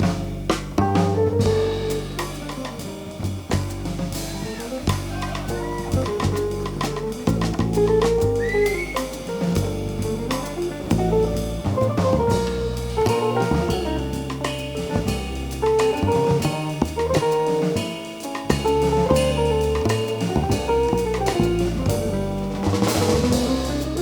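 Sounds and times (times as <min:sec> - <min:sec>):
bass: 0:00.0 - 0:24.0
drum kit cymbal strokes: 0:00.0 - 0:24.0
jazz guitar lines: 0:00.0 - 0:24.0.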